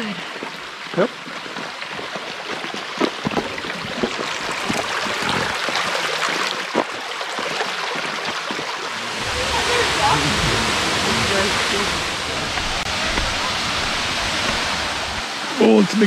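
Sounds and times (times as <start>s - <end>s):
creek babbling over stones: 0.0s - 16.0s.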